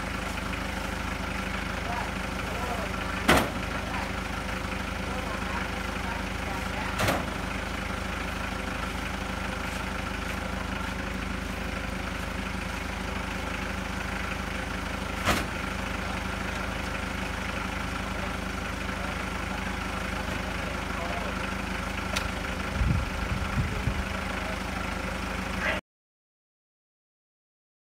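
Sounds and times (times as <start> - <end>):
forklift engine idling: 0.0 - 25.8.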